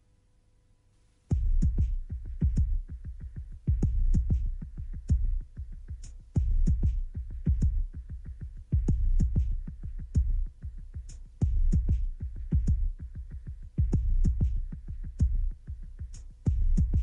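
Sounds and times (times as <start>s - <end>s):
electronic music drum-machine beat: 1.3s - 17.0s.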